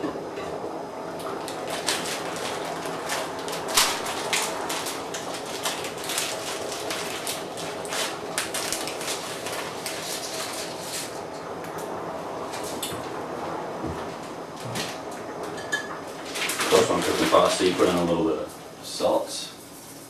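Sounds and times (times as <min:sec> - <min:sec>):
water boiling in a pot: 0:00.0 - 0:20.0.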